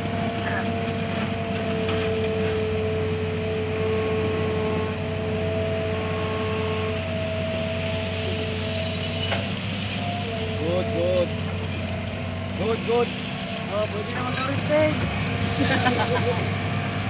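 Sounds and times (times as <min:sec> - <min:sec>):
excavator diesel hum: 0:00.0 - 0:17.0
hydraulic whine: 0:01.9 - 0:17.0.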